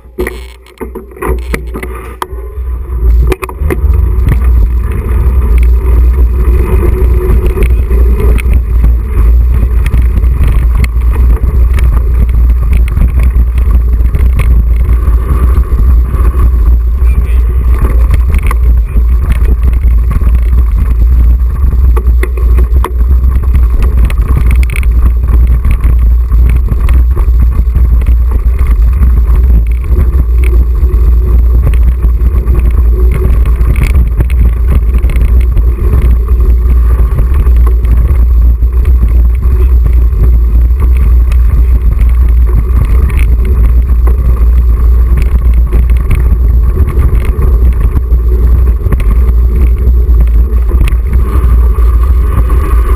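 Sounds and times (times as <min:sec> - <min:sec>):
bike clicking and clattering: 0:00.0 - 0:52.9
wind rumble on microphone: 0:00.0 - 0:52.9.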